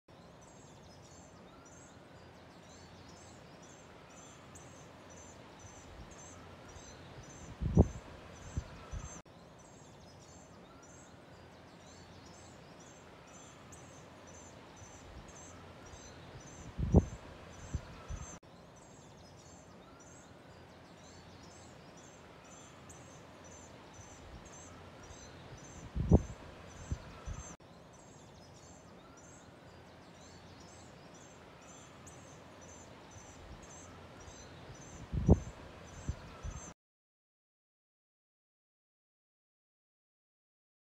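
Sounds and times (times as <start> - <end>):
background noise: 0.1 - 36.8.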